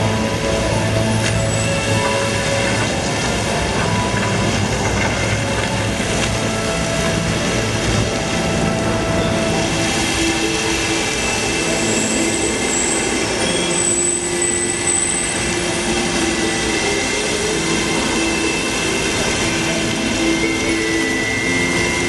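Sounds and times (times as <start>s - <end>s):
dense rushing noise: 0.0s - 22.0s.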